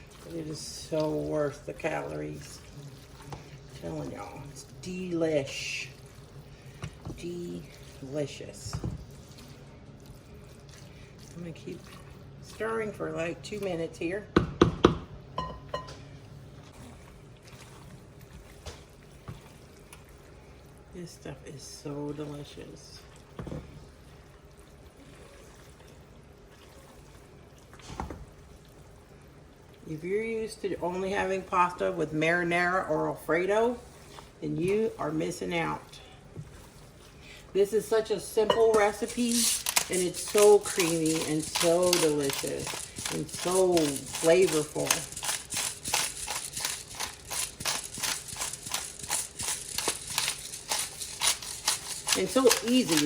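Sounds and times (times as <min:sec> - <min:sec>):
soft wet stirring in a pan: 0:00.0 - 0:14.0, 0:15.4 - 0:53.0.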